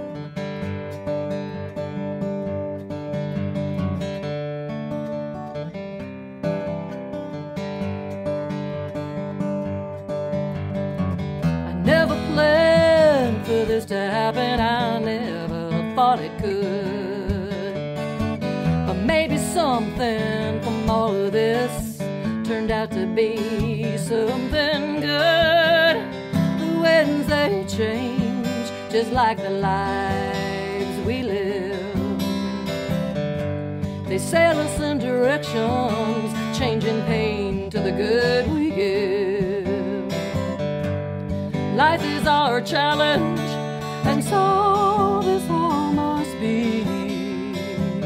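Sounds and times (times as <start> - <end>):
acoustic guitar background music: 0.0 - 48.0.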